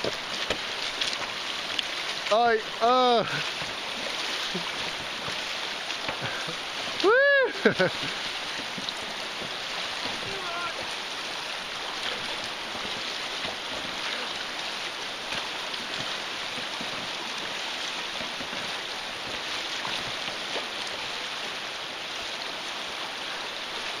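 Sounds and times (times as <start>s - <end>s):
oar splashes: 0.0s - 24.0s
river rushing over riffle: 0.0s - 24.0s.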